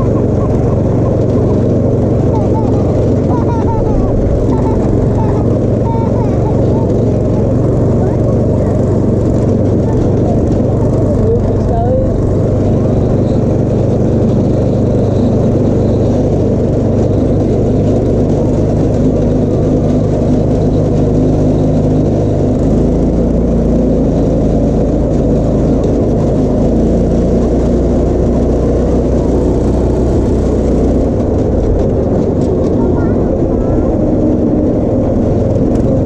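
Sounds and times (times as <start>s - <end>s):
go-kart engine running: 0.0s - 36.0s.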